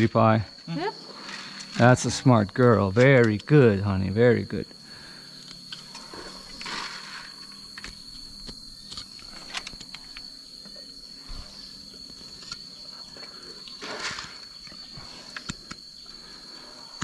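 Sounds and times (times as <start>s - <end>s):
steady high-pitched whine: 0.0s - 17.0s.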